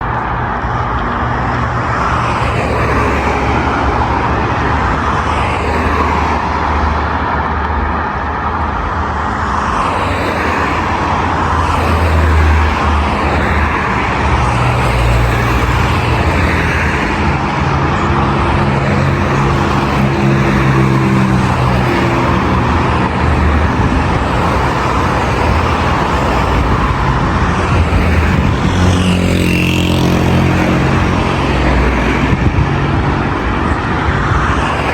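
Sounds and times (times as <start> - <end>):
cars passing: 0.0 - 34.9
hum of engines and tyres: 0.0 - 34.9.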